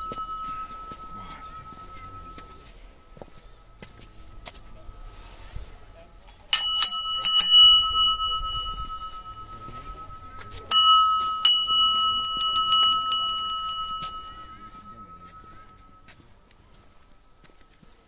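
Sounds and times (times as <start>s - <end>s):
hand bell ringing: 0.0s - 3.9s, 6.5s - 17.8s.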